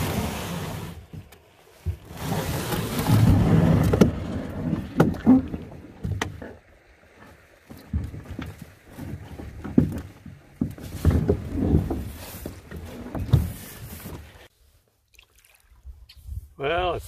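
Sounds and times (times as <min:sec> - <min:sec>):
paddle strokes swishing in water: 0:00.0 - 0:16.5.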